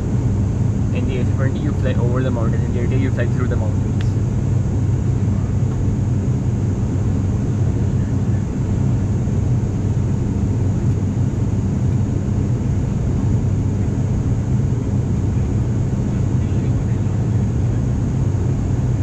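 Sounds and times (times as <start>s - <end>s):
turboprop engines droning in cabin: 0.0s - 19.0s.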